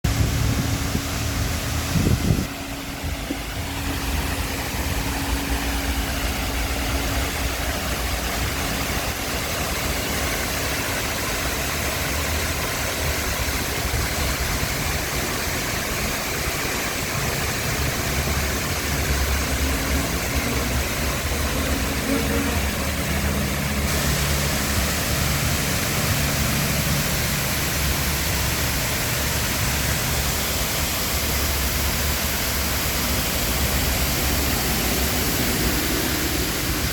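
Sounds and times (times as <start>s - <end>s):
small waterfall splashing: 0.0s - 36.9s
vehicle engines rumbling: 0.0s - 36.9s.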